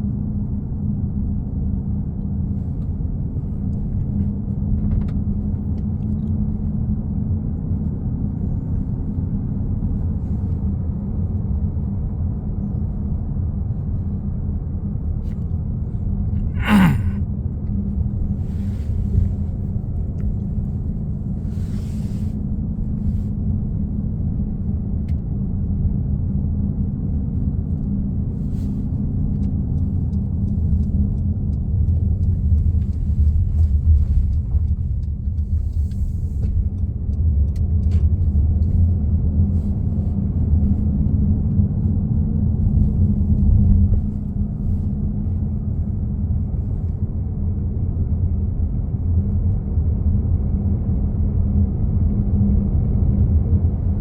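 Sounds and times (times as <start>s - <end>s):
car humming and rumbling: 0.0s - 54.0s.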